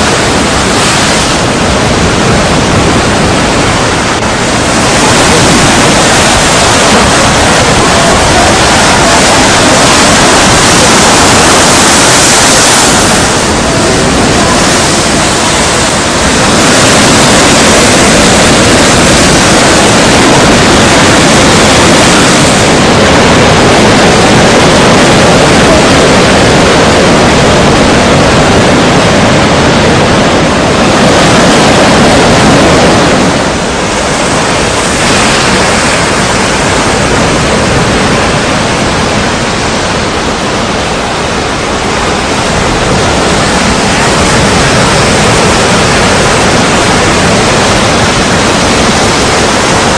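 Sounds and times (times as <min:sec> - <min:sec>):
surf rushing: 0:00.0 - 0:49.9
wind gusting against microphone: 0:00.0 - 0:49.9.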